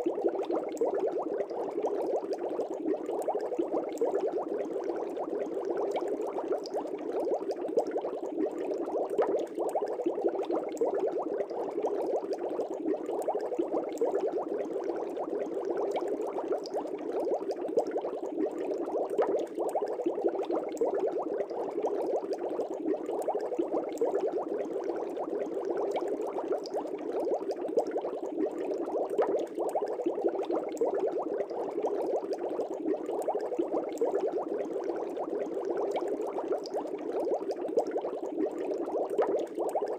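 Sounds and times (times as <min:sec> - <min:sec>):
air bubbles in aquarium water: 0:00.0 - 0:39.9.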